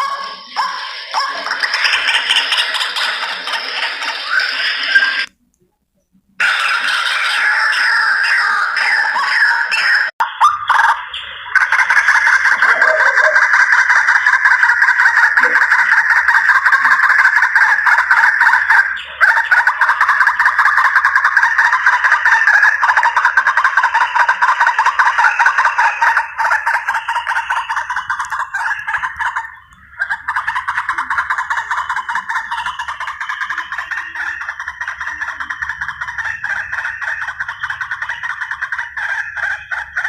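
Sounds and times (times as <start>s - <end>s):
waterhen calls: 7.5s - 40.0s.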